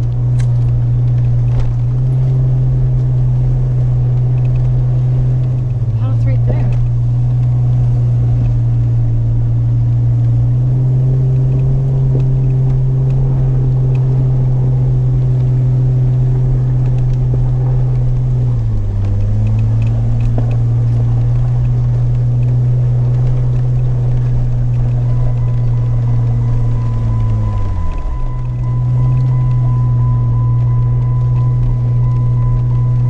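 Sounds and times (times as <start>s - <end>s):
engine droning: 0.0s - 33.0s.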